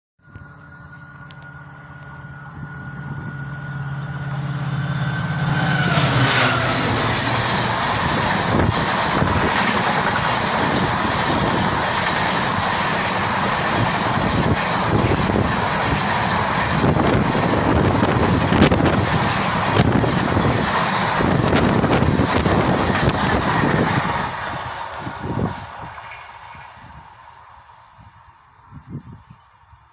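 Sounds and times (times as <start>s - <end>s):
diesel locomotive engine drone: 0.2s - 29.9s.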